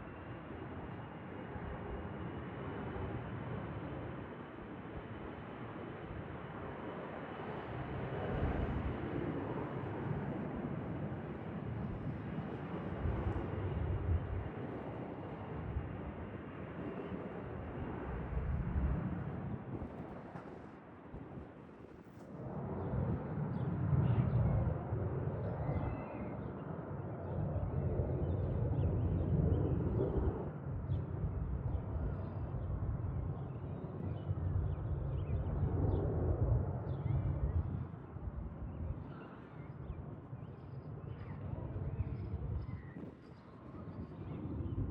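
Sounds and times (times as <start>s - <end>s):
wind rumbling on microphone: 6.0s - 44.9s.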